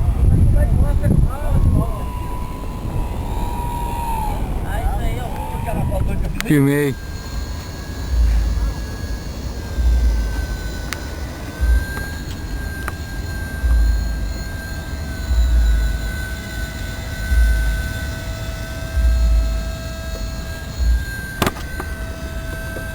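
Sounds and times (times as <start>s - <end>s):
model airplane motor whine: 0.0s - 22.9s
wind buffeting microphone: 0.0s - 22.9s.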